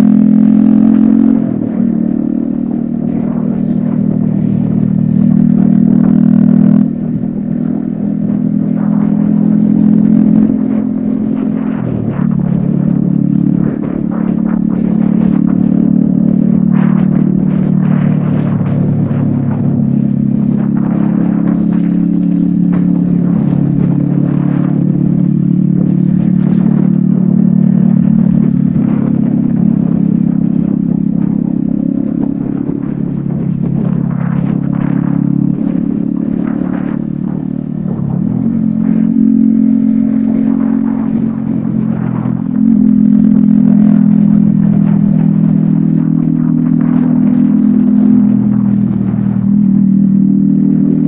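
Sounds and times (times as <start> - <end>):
motorcycle engine cruising: 0.0 - 51.0.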